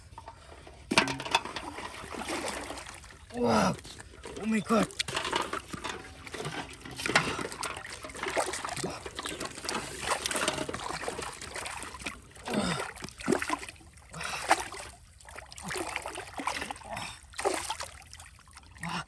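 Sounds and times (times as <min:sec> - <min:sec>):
pond water splashing: 0:00.0 - 0:19.0.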